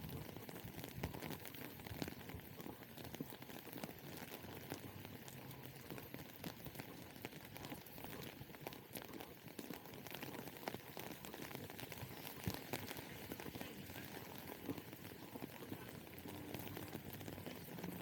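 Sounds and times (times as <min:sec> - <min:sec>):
rain drops ticking: 0:00.0 - 0:18.0.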